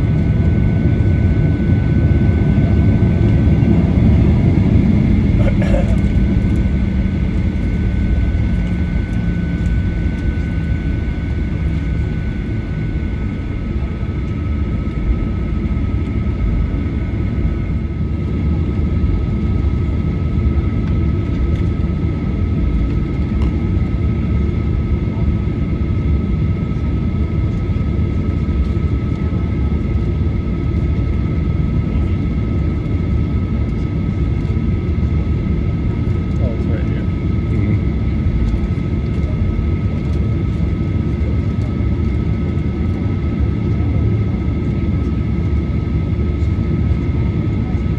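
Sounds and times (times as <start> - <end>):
airplane cabin rumble: 0.0 - 47.9
jet engine whine: 0.0 - 47.9.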